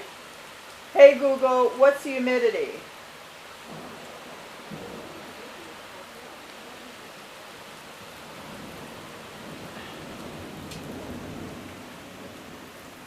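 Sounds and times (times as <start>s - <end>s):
hard rain pouring: 0.0s - 13.0s
high winds: 0.0s - 13.0s.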